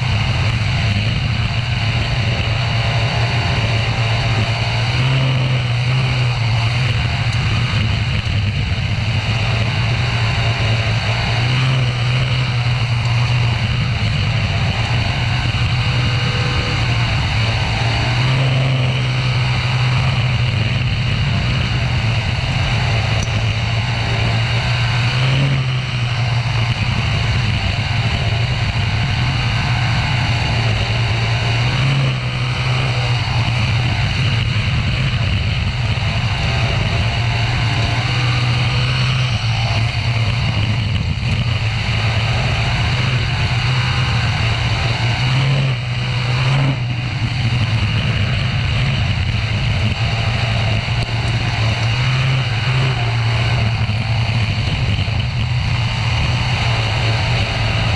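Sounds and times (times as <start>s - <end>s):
race car engine running hard: 0.0s - 57.9s.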